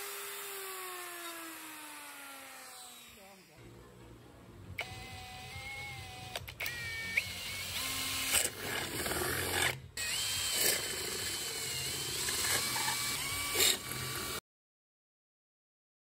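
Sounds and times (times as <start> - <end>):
electric drill whine: 0.0 - 3.6, 4.8 - 14.4.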